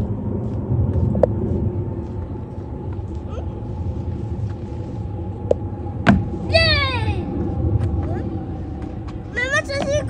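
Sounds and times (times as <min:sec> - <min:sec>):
faint hum: 0:00.0 - 0:10.0
low rumble: 0:00.0 - 0:10.0.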